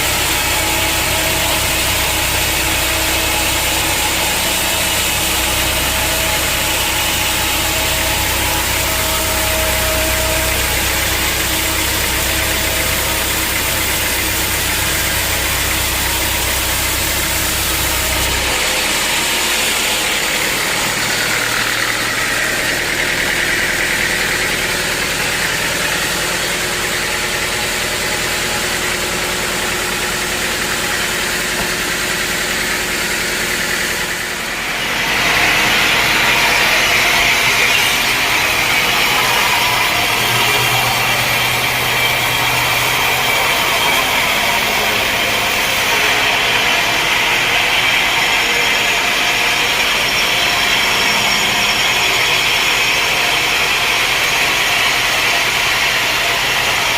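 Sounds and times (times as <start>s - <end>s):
high machine whine: 0.0s - 56.9s
sawmill machinery drone: 0.0s - 56.9s.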